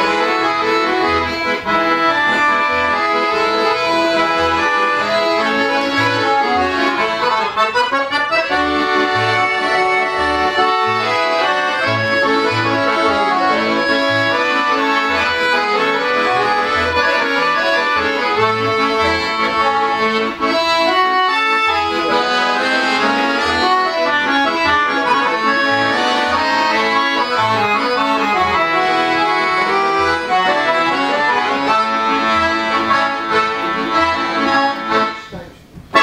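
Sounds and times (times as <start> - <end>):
accordions playing together: 0.0 - 36.0.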